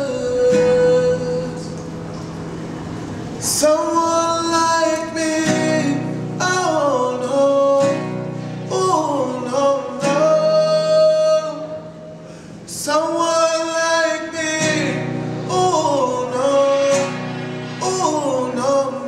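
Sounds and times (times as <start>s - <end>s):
man singing: 0.0s - 1.8s, 3.4s - 12.1s, 12.7s - 19.0s
acoustic guitar: 0.0s - 19.0s.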